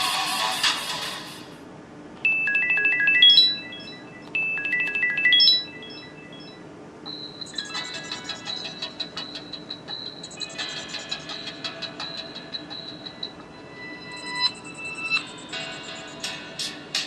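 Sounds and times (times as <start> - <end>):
smartphone ringtone melody: 2.3 - 16.6.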